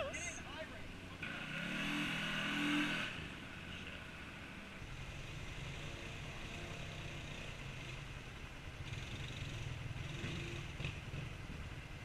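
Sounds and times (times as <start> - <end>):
off-road vehicle engines idling: 0.0 - 1.6, 3.1 - 12.0.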